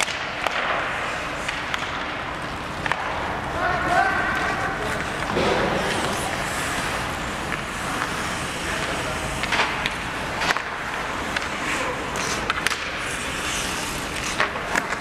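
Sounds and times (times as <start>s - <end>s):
hockey sticks clacking: 0.0s - 15.0s
skate blades scraping on ice: 0.0s - 15.0s.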